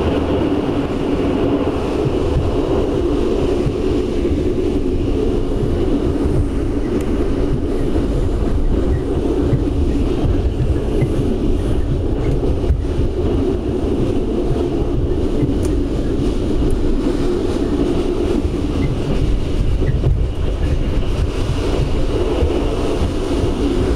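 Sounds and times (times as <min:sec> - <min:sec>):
train wheels and carriage rumbling: 0:00.0 - 0:23.9.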